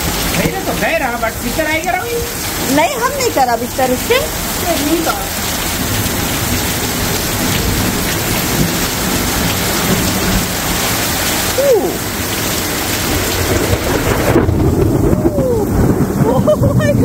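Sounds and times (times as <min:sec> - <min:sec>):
heavy rain on paving: 0:00.0 - 0:17.0
low rumble of thunder: 0:00.0 - 0:17.0.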